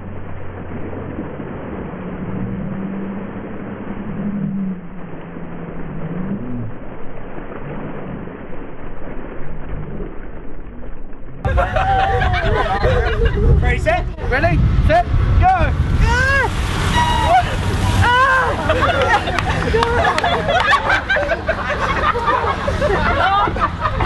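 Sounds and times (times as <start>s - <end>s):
low wavering hum: 0.0s - 24.0s
water splashing over people: 0.0s - 24.0s.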